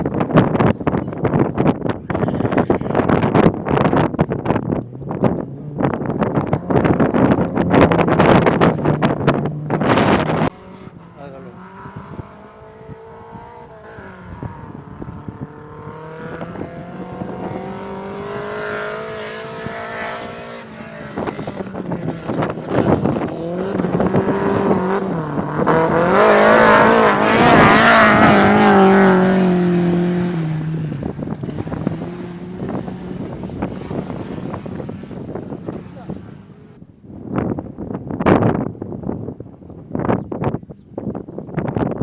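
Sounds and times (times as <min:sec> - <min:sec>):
rally car engine accelerating: 0:03.0 - 0:36.8.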